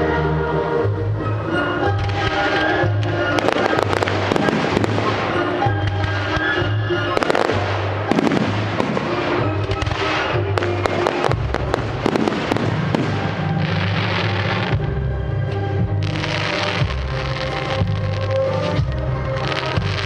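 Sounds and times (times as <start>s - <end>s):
fireworks banging and crackling: 1.9s - 20.0s.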